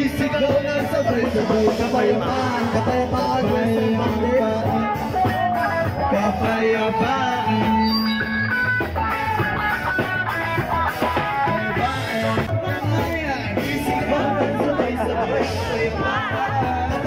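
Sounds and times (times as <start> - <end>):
drum kit: 0.0 - 17.0
electric guitars: 0.0 - 17.0.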